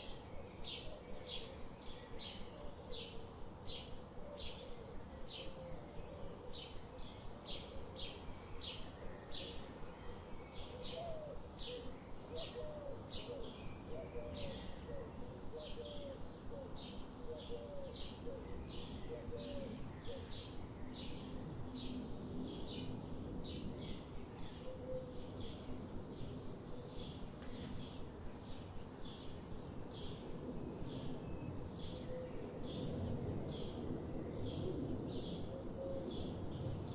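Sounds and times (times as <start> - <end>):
low background hiss: 0.0 - 36.9.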